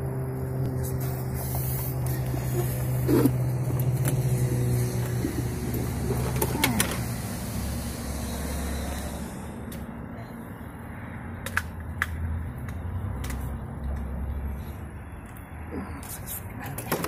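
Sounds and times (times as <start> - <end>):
idling engine hum: 0.0 - 17.0.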